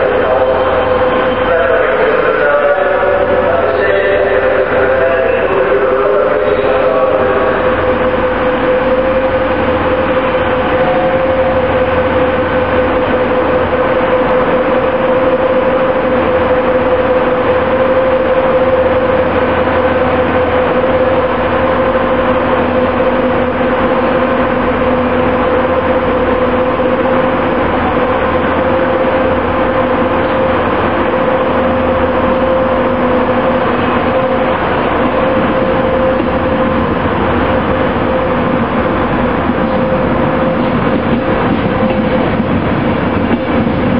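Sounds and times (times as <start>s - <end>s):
low rumble: 0.0s - 43.9s
train equipment steady hum: 0.0s - 43.9s.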